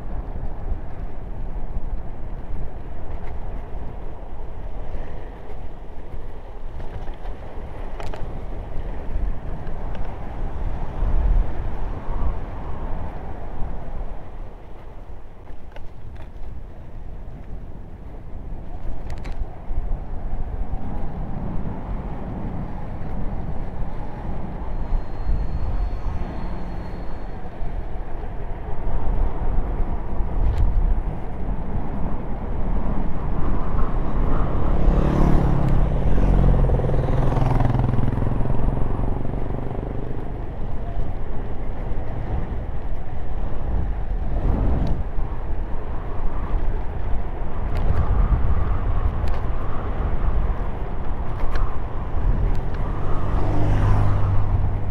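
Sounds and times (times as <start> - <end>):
tyres rolling on asphalt: 0.0 - 54.9
wind on microphone: 0.0 - 54.9.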